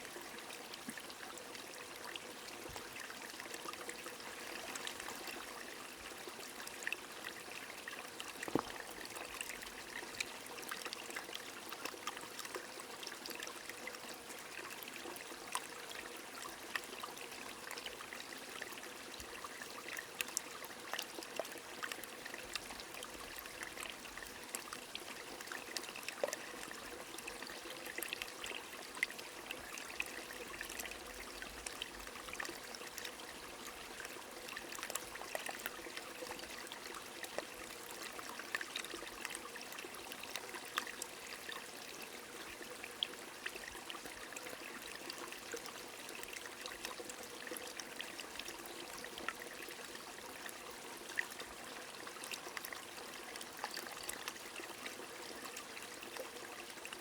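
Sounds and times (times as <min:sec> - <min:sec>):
running water of small stream: 0:00.0 - 0:57.0.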